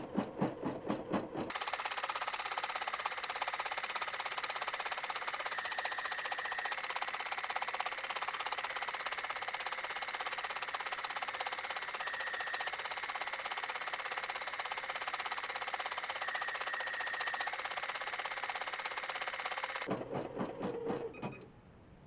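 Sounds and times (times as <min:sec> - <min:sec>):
embroidery machine stitching: 0:01.5 - 0:19.9.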